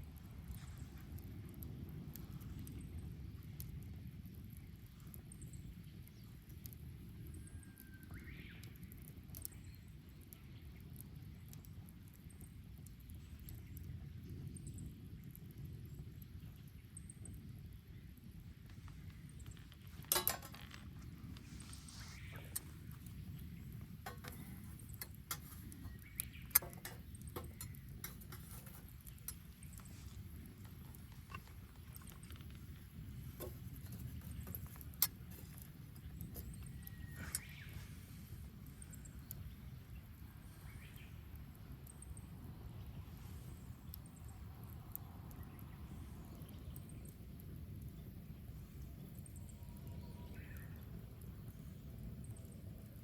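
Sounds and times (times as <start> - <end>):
flames rushing: 0.0 - 50.0
wood crackling and popping: 0.0 - 53.0
low steady rumble: 9.2 - 53.0.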